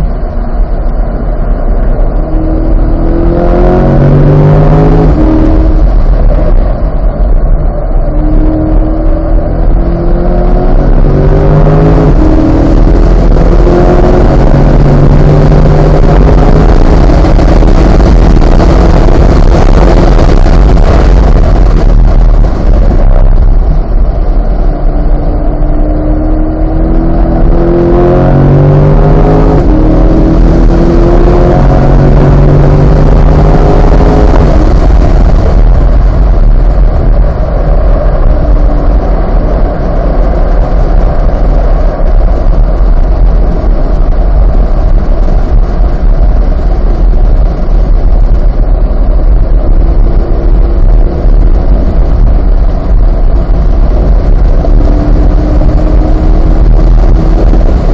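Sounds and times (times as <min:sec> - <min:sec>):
sports car engine at full throttle: 0:00.0 - 0:57.9
wind and road noise: 0:00.0 - 0:57.9.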